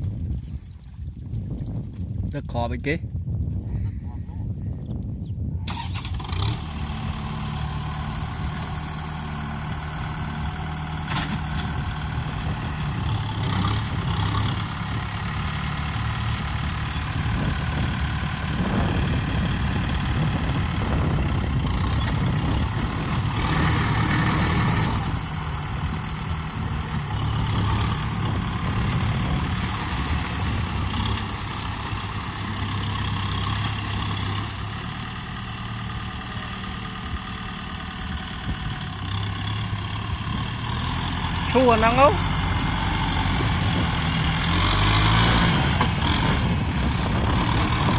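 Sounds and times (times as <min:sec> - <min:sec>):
tractor diesel engine running: 0:03.9 - 0:47.9.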